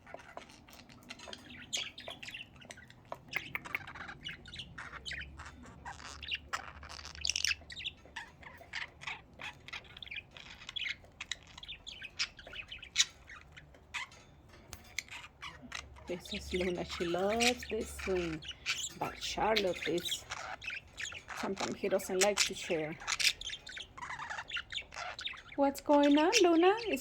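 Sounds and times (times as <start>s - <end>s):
harsh bird squawk: 0.0s - 14.2s, 14.8s - 27.0s
budgerigars chirping and warbling: 0.0s - 27.0s.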